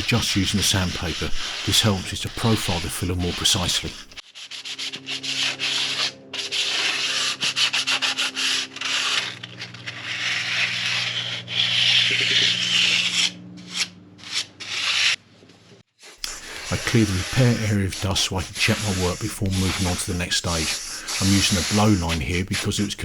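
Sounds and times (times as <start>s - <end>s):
sandpaper rubbing on wood filler: 0.0s - 15.2s, 16.0s - 23.0s.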